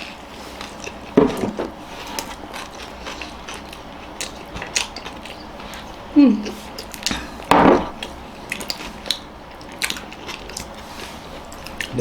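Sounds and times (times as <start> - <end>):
chewing and mouth sounds: 0.0 - 12.0.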